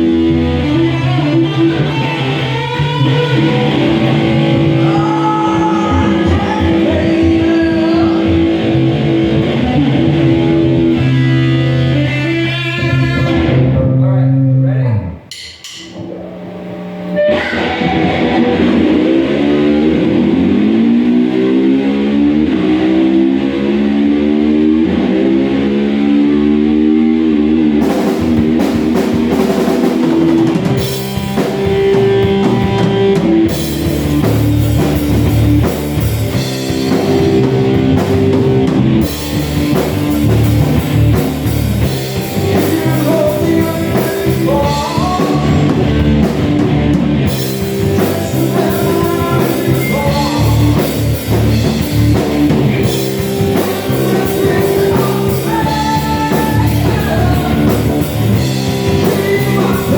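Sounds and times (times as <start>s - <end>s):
rock band playing: 0.0s - 14.4s, 15.1s - 59.9s
electric guitar wavering notes: 0.0s - 15.3s, 15.9s - 59.9s.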